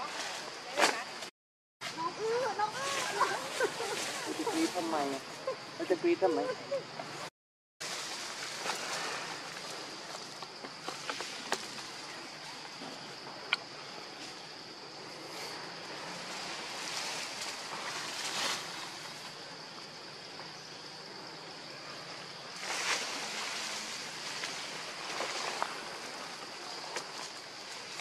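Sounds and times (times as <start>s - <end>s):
high insect drone: 0.0s - 28.0s
leaves and branches rustling: 0.0s - 28.0s.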